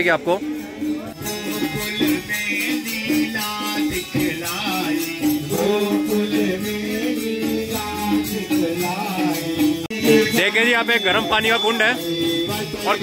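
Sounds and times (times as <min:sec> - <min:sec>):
shaken percussion: 0:00.0 - 0:13.0
men singing devotional song: 0:00.4 - 0:13.0.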